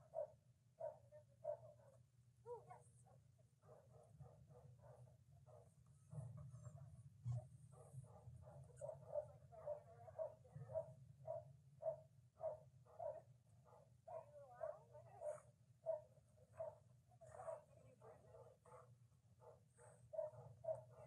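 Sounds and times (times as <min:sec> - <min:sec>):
faint dog barking: 0:00.0 - 0:21.0.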